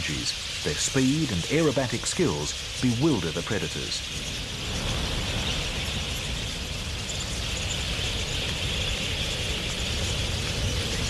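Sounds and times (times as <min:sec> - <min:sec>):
high bird calls: 0:00.0 - 0:11.0.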